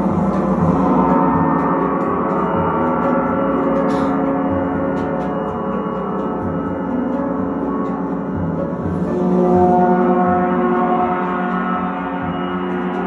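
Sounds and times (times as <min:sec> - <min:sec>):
gongs ringing: 0:00.0 - 0:13.0.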